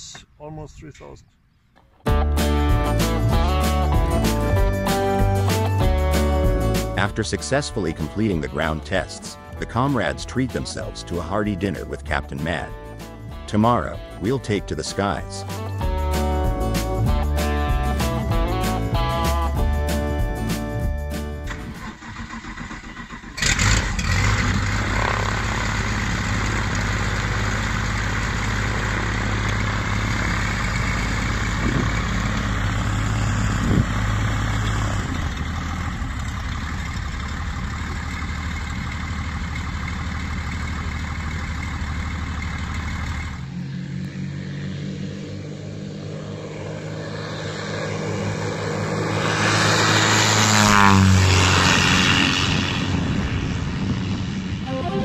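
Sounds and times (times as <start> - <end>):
light aircraft engine and propeller: 2.9 - 54.9.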